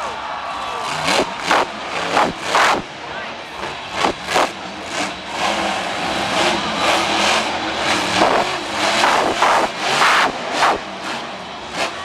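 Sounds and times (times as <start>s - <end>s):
monster truck engine revving: 0.8s - 12.0s.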